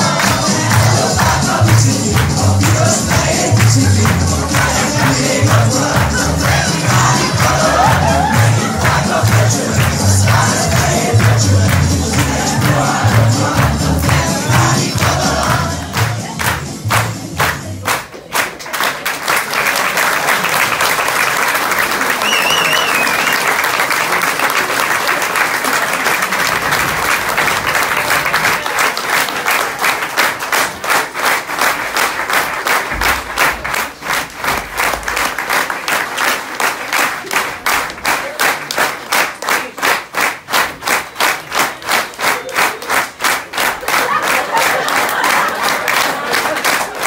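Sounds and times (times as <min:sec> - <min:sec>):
audience applauding: 0:00.0 - 0:47.0
rhythmic clapping in unison: 0:00.0 - 0:47.0.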